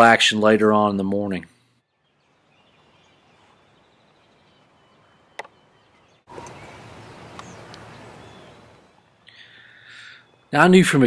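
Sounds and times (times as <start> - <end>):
faint songbird chirps: 1.6 - 11.0
steady background hiss: 2.1 - 11.0.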